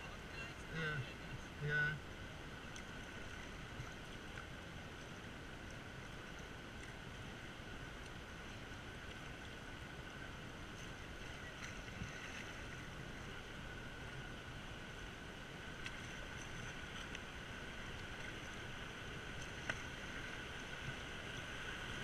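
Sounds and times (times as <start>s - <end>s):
river current rushing: 0.0s - 22.0s
paddle splashes: 2.5s - 14.0s, 15.7s - 22.0s.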